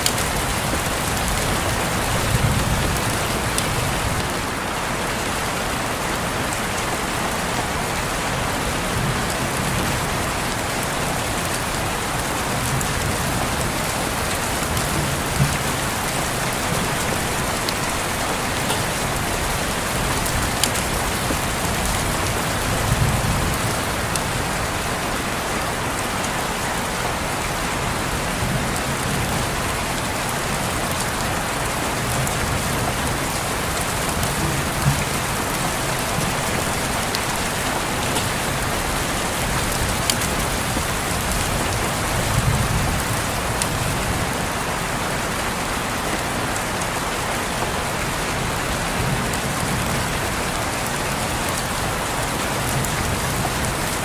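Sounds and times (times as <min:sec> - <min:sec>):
rain falling on a window: 0:00.0 - 0:54.0.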